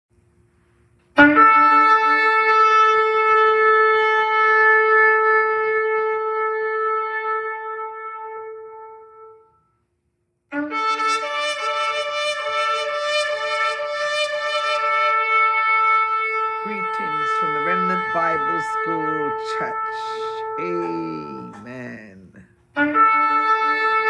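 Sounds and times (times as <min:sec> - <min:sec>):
shofar blasts: 0:01.2 - 0:09.7, 0:10.5 - 0:24.0.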